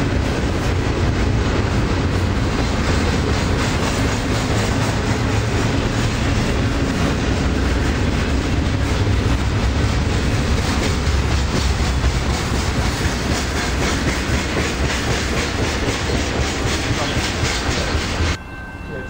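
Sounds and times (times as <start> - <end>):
wheels clacking over rail joints: 0.0 - 18.4
freight train rumble: 0.0 - 19.0.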